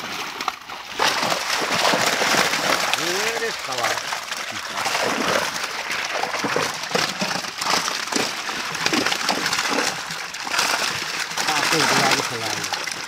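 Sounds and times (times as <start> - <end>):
fish thrashing in water: 0.0 - 13.0.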